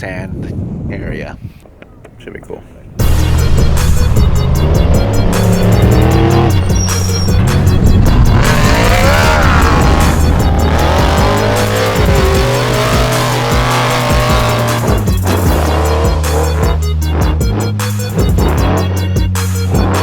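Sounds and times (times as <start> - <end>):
music with a steady beat: 3.0 - 20.0
truck engines revving: 3.0 - 20.0.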